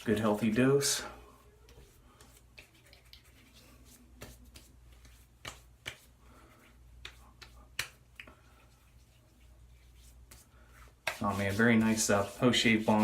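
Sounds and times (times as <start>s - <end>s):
hands patting face: 1.6s - 13.0s
hands rubbing face: 1.7s - 13.0s.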